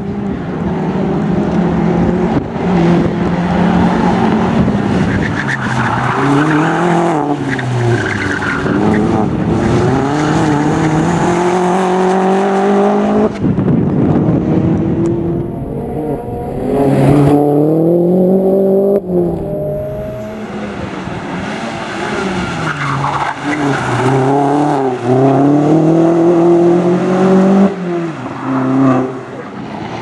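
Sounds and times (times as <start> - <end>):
racing car engine revving: 0.0 - 30.0.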